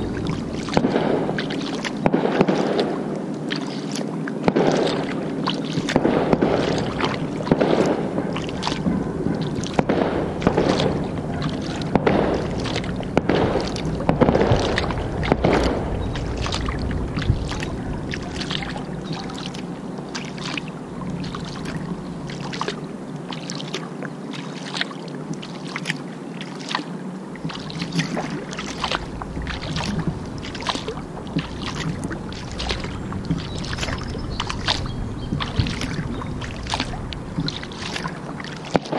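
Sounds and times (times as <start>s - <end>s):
kayak paddle splashing: 0.0s - 38.9s
steady low hum: 0.0s - 38.9s.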